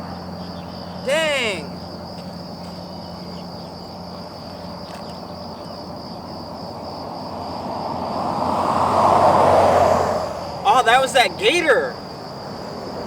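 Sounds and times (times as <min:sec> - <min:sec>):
high-pitched insect trill: 0:00.0 - 0:08.7, 0:10.4 - 0:13.0
distant traffic hum: 0:00.0 - 0:13.0
passing vehicle: 0:01.6 - 0:13.0.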